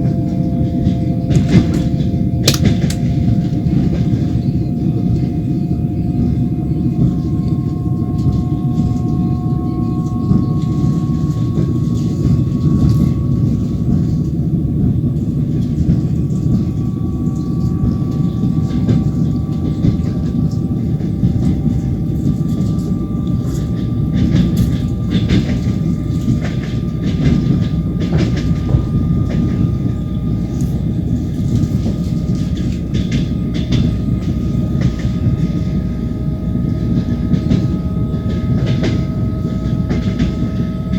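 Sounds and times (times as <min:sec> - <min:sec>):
train rumbling on rails: 0:00.0 - 0:40.9.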